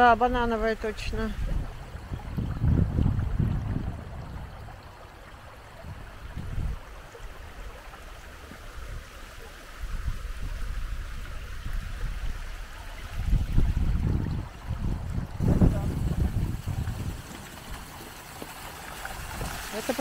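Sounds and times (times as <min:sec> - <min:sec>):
low rumble on microphone: 0:00.0 - 0:07.9, 0:09.8 - 0:19.7
water trickling down stone cascade: 0:00.0 - 0:20.0.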